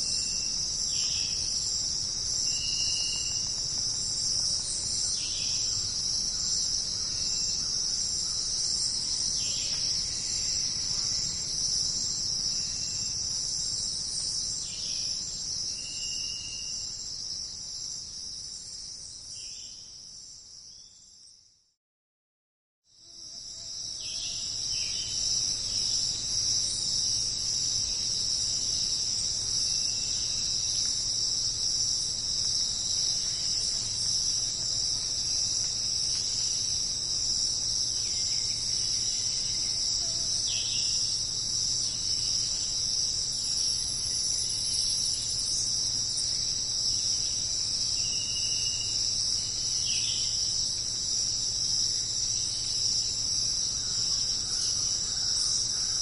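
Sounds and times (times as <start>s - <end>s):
insect chorus trilling: 0.0s - 20.9s, 23.0s - 56.0s.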